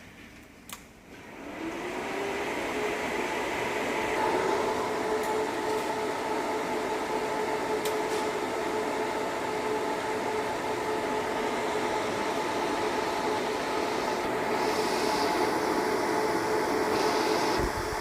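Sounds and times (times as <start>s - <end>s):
machine hum and whir: 0.0s - 18.0s.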